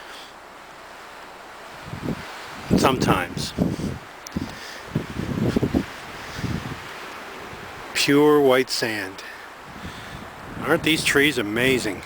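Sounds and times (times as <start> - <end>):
wind rushing through pine trees: 0.0 - 12.0.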